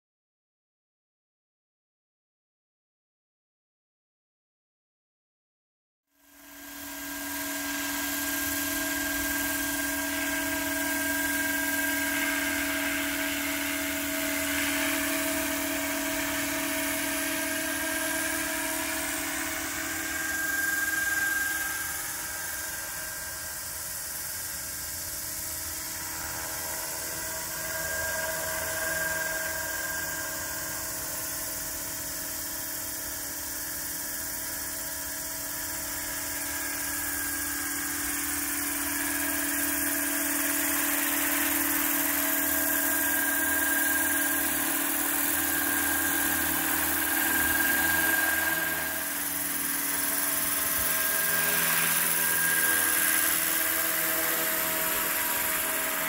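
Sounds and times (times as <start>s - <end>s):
high-pitched mechanical whine: 6.1s - 56.0s
helicopter rotor whirr: 6.2s - 56.0s.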